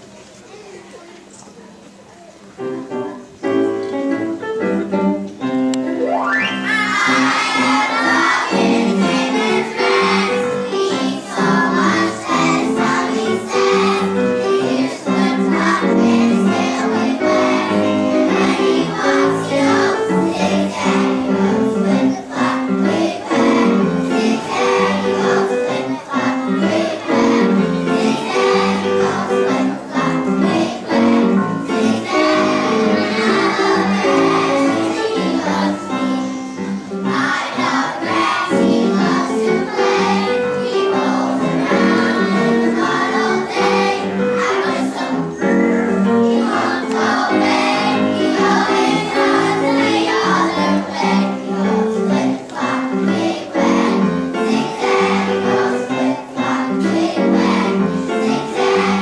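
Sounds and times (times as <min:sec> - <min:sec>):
children singing in unison: 0:06.4 - 0:59.0.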